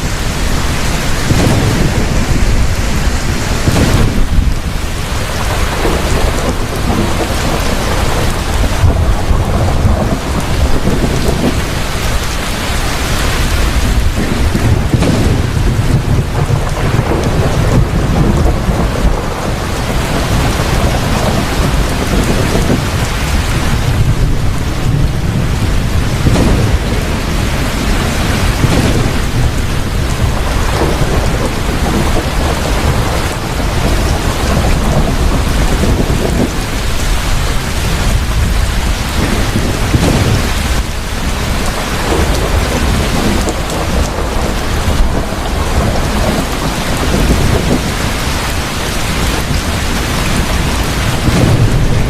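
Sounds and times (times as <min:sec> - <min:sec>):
heavy rain pouring: 0:00.0 - 0:52.0
low rumble of thunder: 0:00.0 - 0:52.0.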